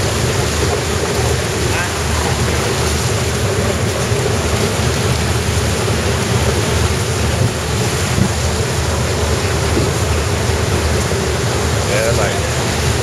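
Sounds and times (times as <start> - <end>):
floodwater rushing and churning: 0.0 - 13.0
low rumble of train: 0.0 - 13.0.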